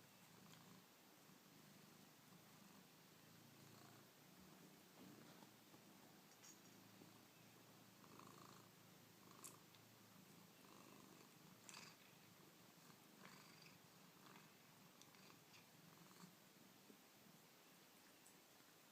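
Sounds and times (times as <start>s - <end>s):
cat purring: 0.2s - 18.9s.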